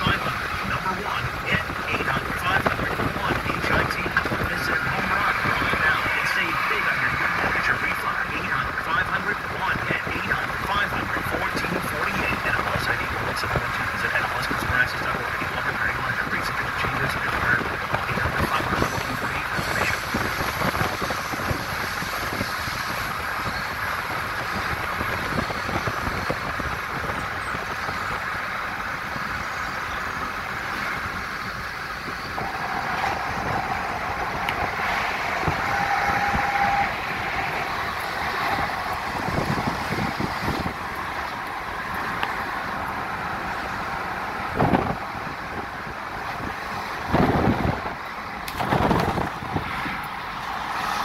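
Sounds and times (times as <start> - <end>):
road and wind noise in car: 0.0 - 51.0.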